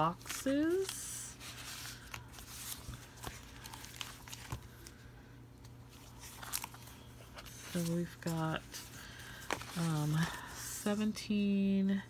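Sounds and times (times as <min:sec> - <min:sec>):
paper rustling: 0:00.0 - 0:10.4
steady low hum: 0:00.0 - 0:12.0.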